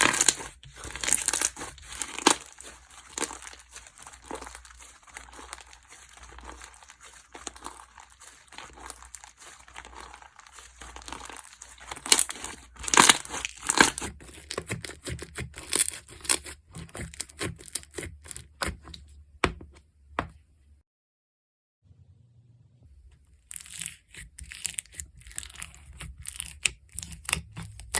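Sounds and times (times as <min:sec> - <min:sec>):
slime squelching: 0:00.0 - 0:19.0, 0:23.2 - 0:27.9.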